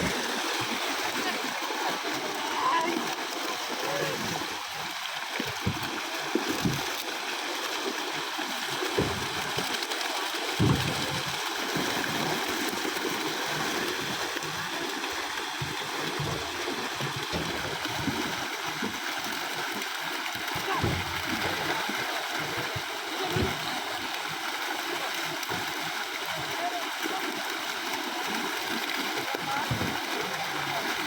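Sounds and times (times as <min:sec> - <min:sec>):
flowing water: 0:00.0 - 0:31.0
water splashes: 0:00.0 - 0:31.0.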